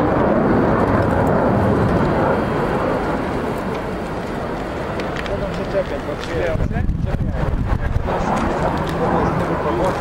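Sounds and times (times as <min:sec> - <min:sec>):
aircraft engine roar: 0:00.0 - 0:10.0.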